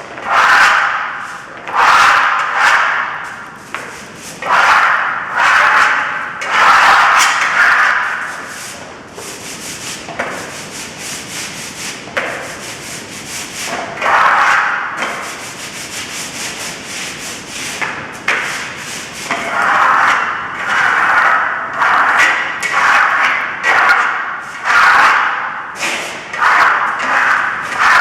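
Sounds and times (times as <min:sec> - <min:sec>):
hand tool scraping plaster: 0:00.0 - 0:28.0.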